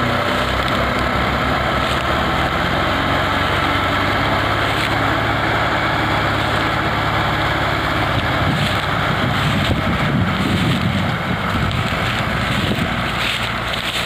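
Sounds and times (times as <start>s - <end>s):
tractor engines under load: 0.0s - 14.0s
wind buffeting microphone: 0.0s - 14.0s.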